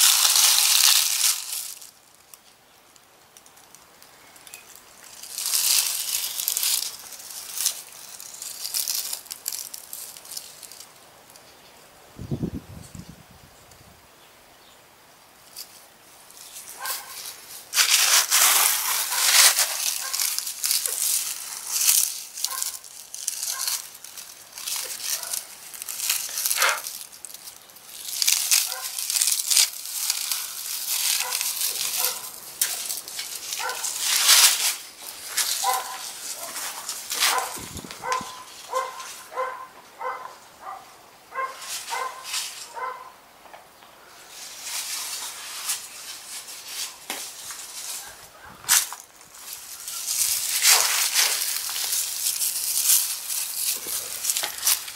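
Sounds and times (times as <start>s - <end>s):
dry leaves crackling and rustling: 0.0s - 12.3s, 15.4s - 43.2s, 44.0s - 54.9s.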